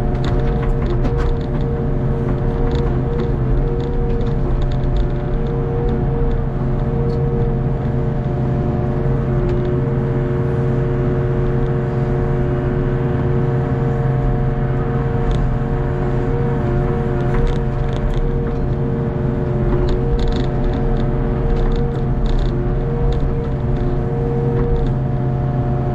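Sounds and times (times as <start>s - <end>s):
excavator diesel engine running: 0.0s - 25.9s
hydraulic whine: 0.0s - 25.9s.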